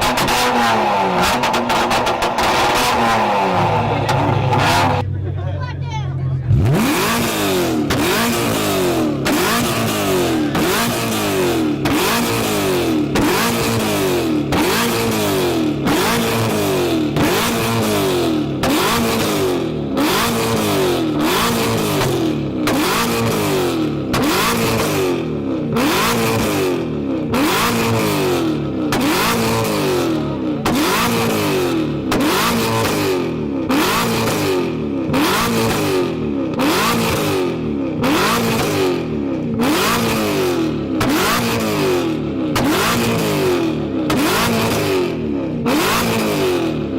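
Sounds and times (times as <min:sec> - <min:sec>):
car engine revving: 0:00.0 - 0:05.3, 0:06.4 - 0:46.9.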